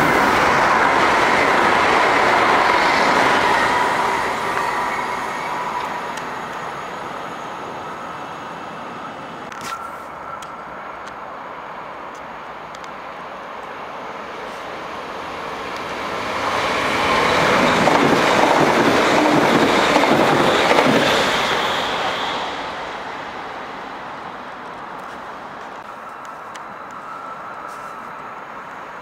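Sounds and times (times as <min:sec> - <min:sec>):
electric train passing at speed: 0:00.0 - 0:29.0.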